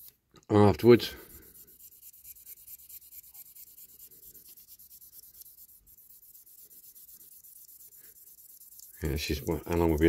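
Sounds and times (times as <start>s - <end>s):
scratchy rubbing on plastic: 0.9s - 10.0s.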